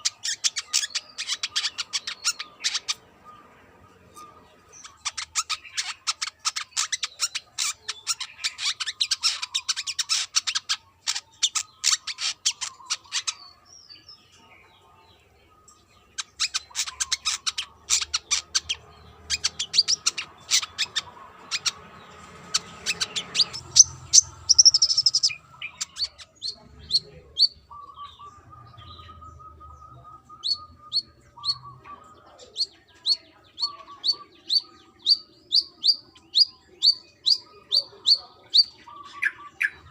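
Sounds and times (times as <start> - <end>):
bird chipping calls: 0.0 - 13.7, 16.0 - 39.9.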